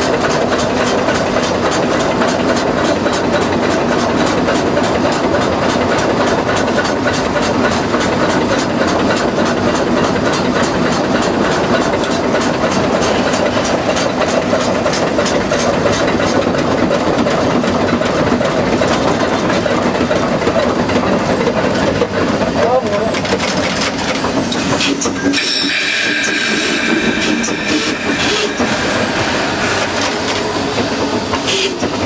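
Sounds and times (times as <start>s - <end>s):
steam locomotive chugging: 0.0s - 32.0s.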